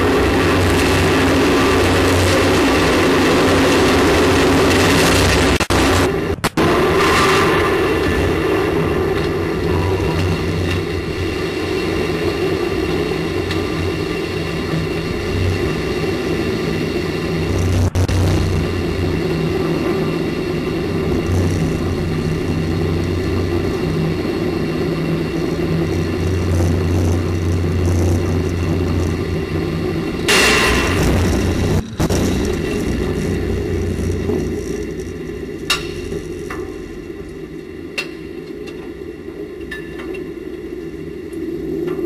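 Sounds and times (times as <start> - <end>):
engine-like drone with low hum: 0.0 - 42.0.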